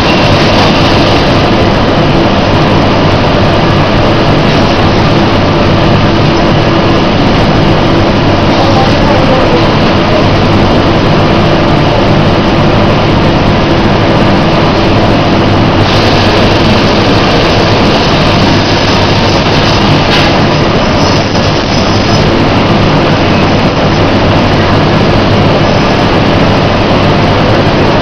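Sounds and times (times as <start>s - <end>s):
machinery running loudly: 0.0s - 28.0s.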